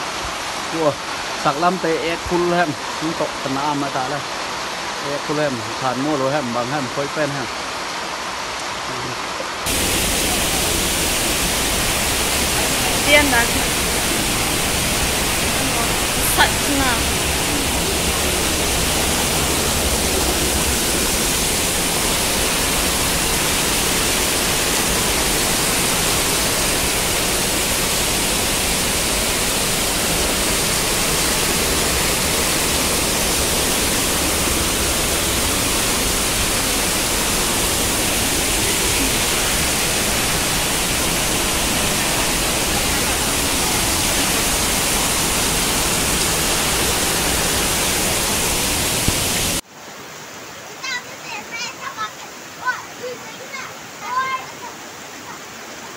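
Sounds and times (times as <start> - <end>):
floodwater rushing: 0.0 - 55.9.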